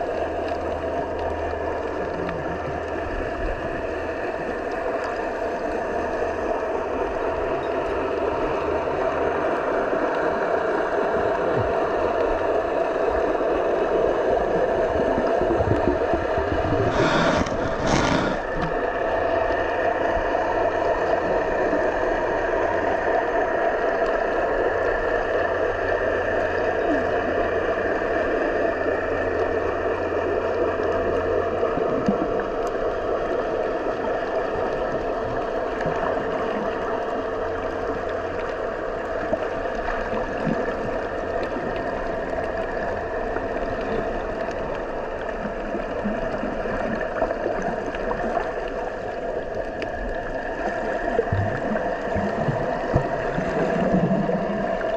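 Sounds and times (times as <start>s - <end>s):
muffled underwater rush: 0.0s - 54.9s.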